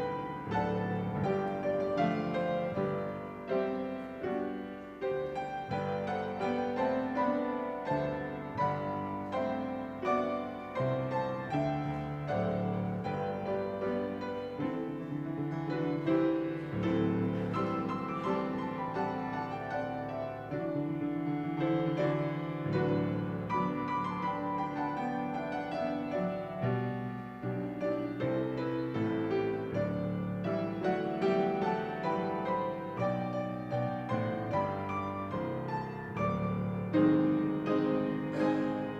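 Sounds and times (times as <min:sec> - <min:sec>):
piano playing slow gentle piece: 0:00.0 - 0:38.9.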